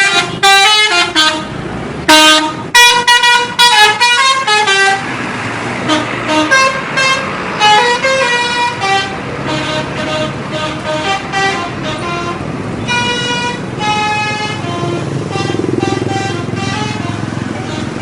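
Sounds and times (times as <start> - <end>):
musical bus air horn: 0.0 - 5.2, 5.8 - 18.0
bus engine running: 0.0 - 18.0.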